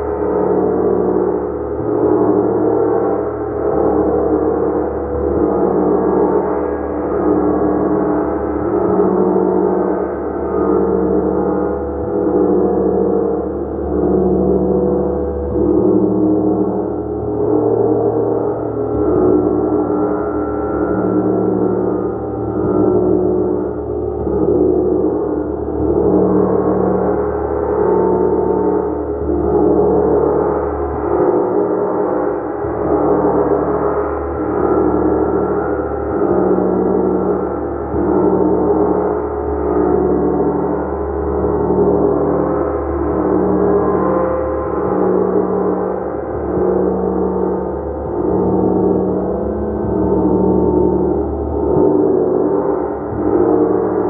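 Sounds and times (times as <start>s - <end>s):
gong sustained tones: 0.0s - 54.0s.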